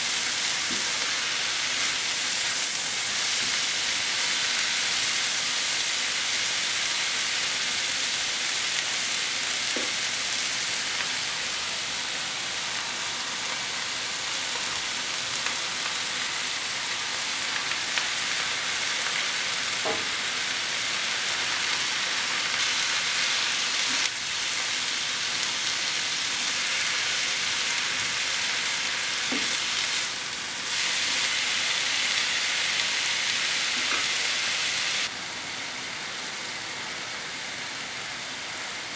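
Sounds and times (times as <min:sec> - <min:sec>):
vegetables sizzling in frying pan: 0:00.0 - 0:38.9.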